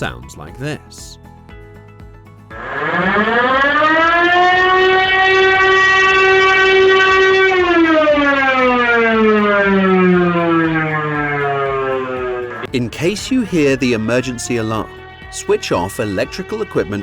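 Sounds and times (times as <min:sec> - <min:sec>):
alarm siren wailing: 0:02.5 - 0:17.0.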